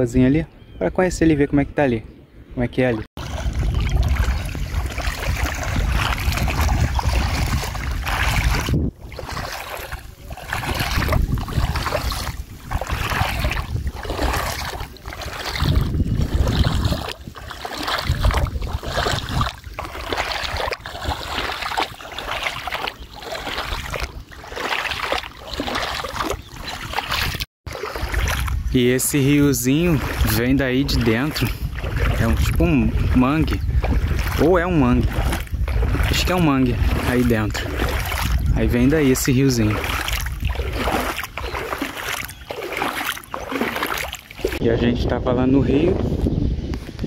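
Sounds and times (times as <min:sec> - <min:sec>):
wind buffeting microphone: 0:03.2 - 0:47.0.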